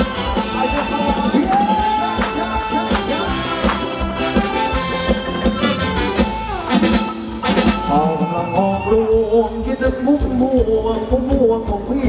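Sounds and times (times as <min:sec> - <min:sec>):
wavering lead melody: 0:00.0 - 0:09.8
live dance band playing: 0:00.0 - 0:12.0
steady drum beat: 0:00.0 - 0:12.0.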